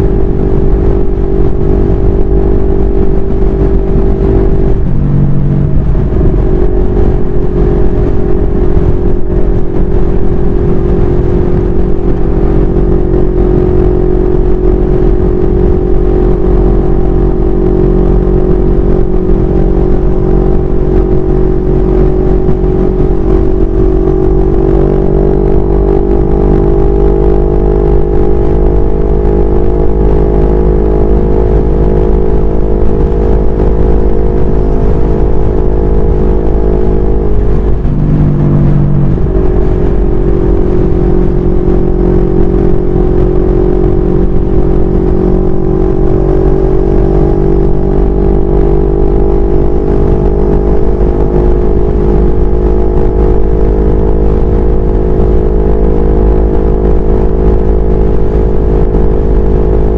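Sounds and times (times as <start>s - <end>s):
motorcycle engine cruising: 0.0s - 59.9s
wind rumble on microphone: 0.0s - 59.9s.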